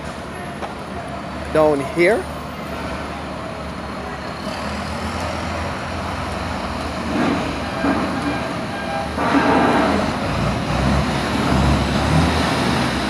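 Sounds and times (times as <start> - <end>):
heavy diesel vehicles: 0.0 - 13.0
road traffic rumble: 0.0 - 13.0.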